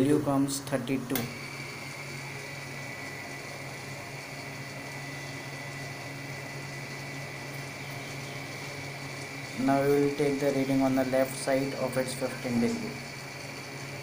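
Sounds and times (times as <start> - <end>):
gear motor humming and whining: 0.0 - 14.0.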